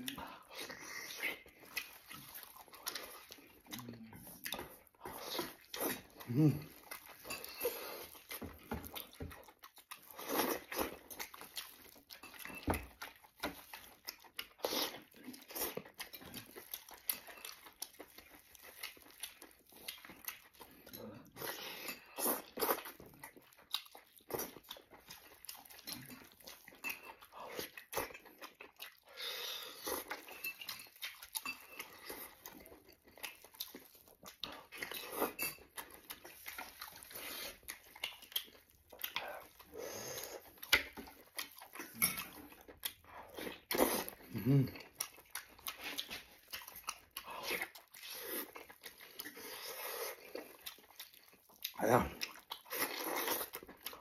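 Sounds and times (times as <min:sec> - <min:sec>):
man chewing and smacking: 0:00.0 - 0:54.0.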